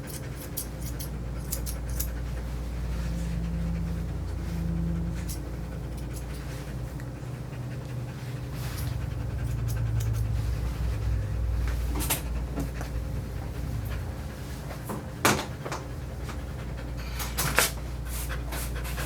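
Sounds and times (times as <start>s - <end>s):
dog panting: 0.0s - 19.0s
steady low hum: 0.0s - 19.0s.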